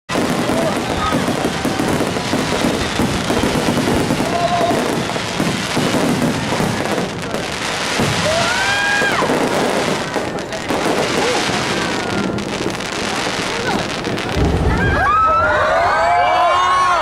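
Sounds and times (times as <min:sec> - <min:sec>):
crowd talking: 0:00.1 - 0:17.0
fireworks crackling and rumbling: 0:00.1 - 0:17.0.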